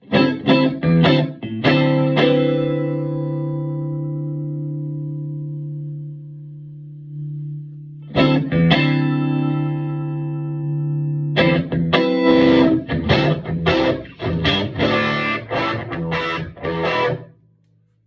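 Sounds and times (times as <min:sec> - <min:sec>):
electric guitar chords: 0:00.0 - 0:17.5.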